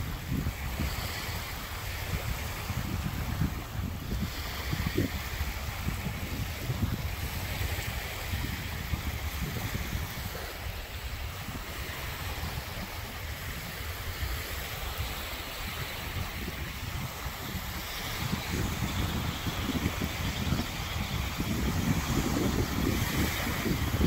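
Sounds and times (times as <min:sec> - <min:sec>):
small waves washing onto sand: 0:00.0 - 0:24.0
wind rumbling on microphone: 0:00.0 - 0:24.0.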